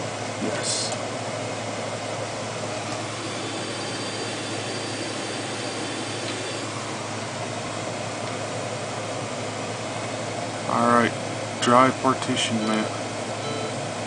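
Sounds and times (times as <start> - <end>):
air conditioner running: 0.0 - 14.0.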